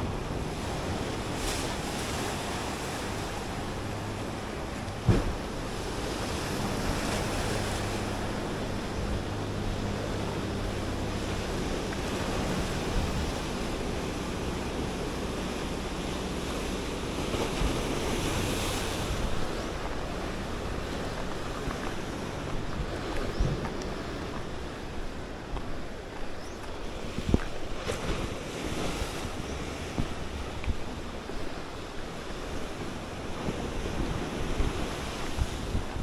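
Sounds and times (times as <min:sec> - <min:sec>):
sea waves washing against rocks: 0:00.0 - 0:36.0.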